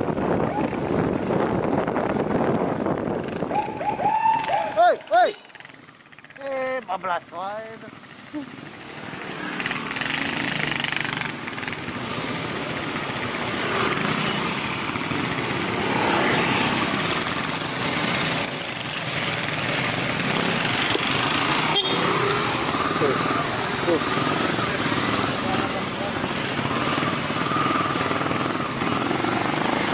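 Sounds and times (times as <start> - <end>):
motorcycle engine and road noise: 0.0 - 29.9.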